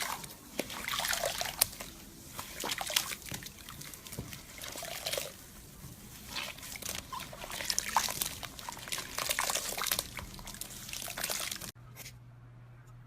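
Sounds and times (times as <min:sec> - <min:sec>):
slime squished by hand: 0:00.0 - 0:11.7.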